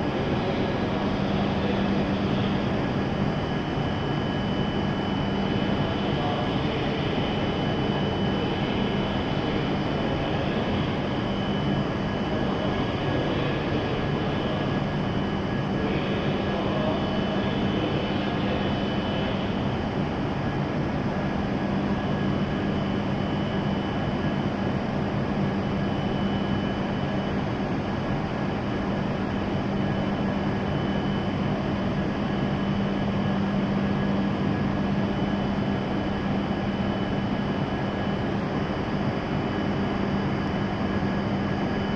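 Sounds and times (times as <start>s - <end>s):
constant rush of noise: 0.0s - 41.9s.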